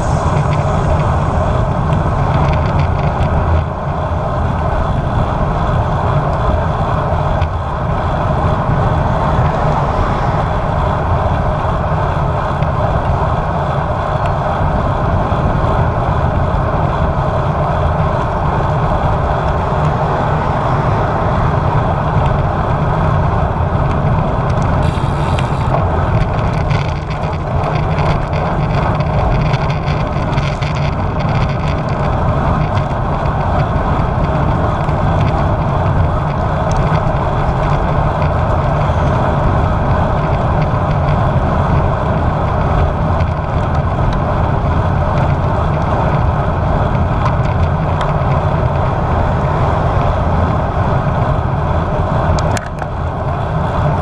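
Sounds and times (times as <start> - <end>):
wind roaring over microphone: 0.0 - 54.0.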